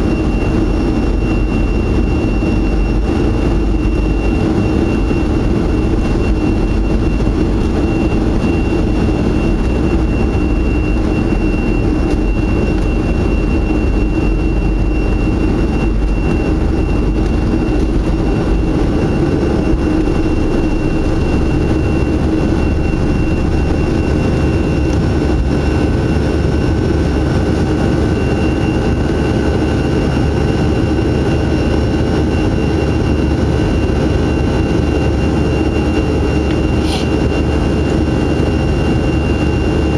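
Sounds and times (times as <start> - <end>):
high engine whine: 0.0 - 39.9
jet engine roar in cabin: 0.0 - 39.9.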